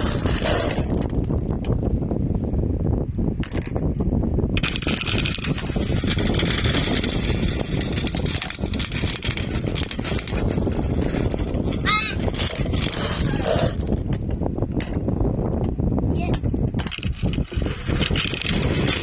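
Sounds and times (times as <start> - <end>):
marbles rolling on a track: 0.0 - 2.4, 4.6 - 15.7, 16.5 - 19.0.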